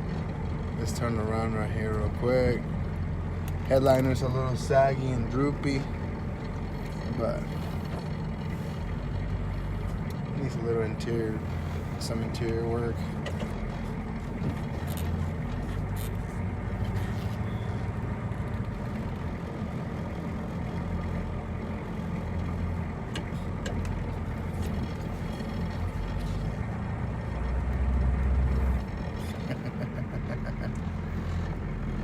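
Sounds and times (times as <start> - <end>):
diesel truck engine drone: 0.0 - 32.0
road noise: 0.0 - 32.0.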